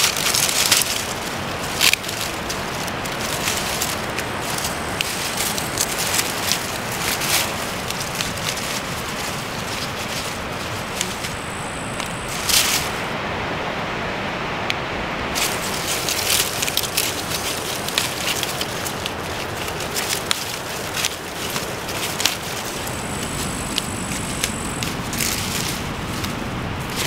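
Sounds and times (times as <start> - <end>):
dry vines rustling and crackling: 0.0 - 13.2, 15.3 - 27.0
background hiss: 0.0 - 27.0.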